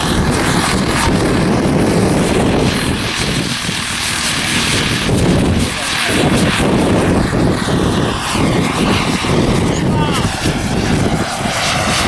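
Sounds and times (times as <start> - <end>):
model helicopter engine and rotors: 0.0 - 12.0.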